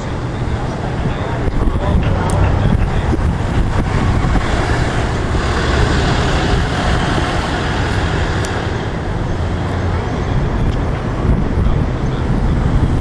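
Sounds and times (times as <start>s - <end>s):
loud traffic rumble: 0.0s - 13.0s.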